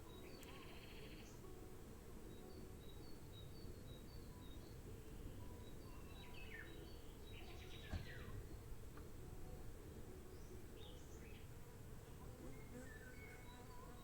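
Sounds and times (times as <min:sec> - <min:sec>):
songbirds chirping: 0:00.0 - 0:14.0
steady low background noise: 0:00.0 - 0:14.0.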